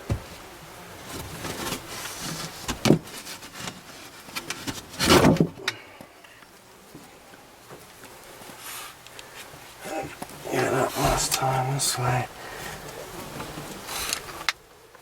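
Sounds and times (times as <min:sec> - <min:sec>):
rustling and scraping on wood: 0:00.0 - 0:05.8, 0:06.4 - 0:14.6.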